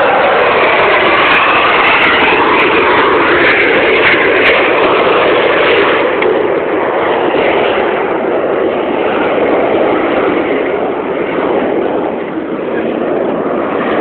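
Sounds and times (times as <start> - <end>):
aircraft roaring past: 0.0 - 14.0.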